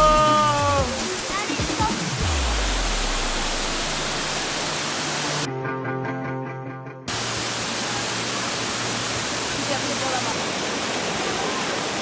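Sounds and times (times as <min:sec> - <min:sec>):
waterfall rushing over rock: 0:00.0 - 0:05.5, 0:07.1 - 0:12.0.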